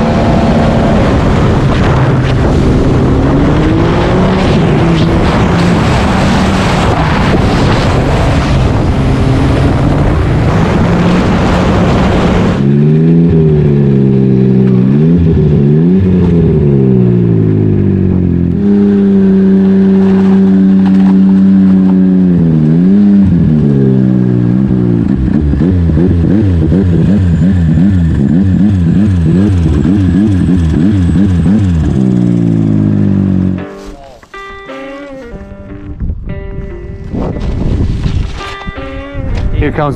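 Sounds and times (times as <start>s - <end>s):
wind noise: 0.0s - 32.9s, 35.2s - 39.9s
snowmobile engine revving: 0.0s - 33.6s
snowmobile running at speed: 0.0s - 33.6s, 37.0s - 39.9s.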